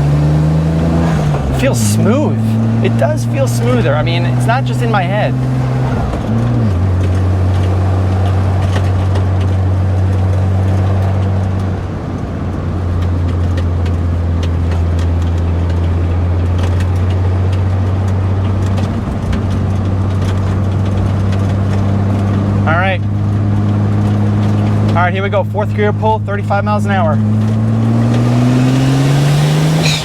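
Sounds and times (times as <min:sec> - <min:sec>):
car engine drone while driving: 0:00.0 - 0:30.0.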